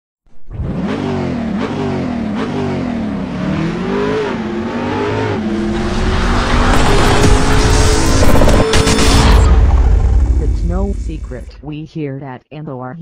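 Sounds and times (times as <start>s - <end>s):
engine revving: 0.3s - 11.6s.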